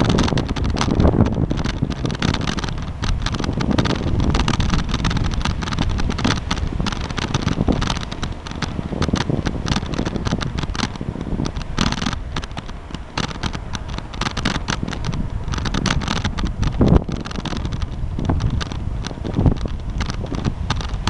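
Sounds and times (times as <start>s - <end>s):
bicycle crackling and rattling: 0.0s - 21.0s
wind rumble on microphone: 0.0s - 21.0s.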